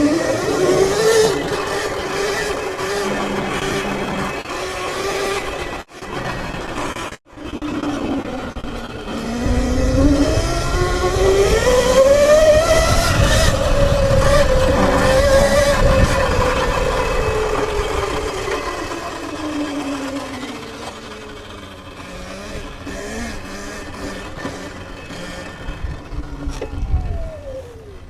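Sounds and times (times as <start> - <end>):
electric dirt bike motor whining: 0.0 - 28.0
wind and tyre rumble: 0.0 - 28.0.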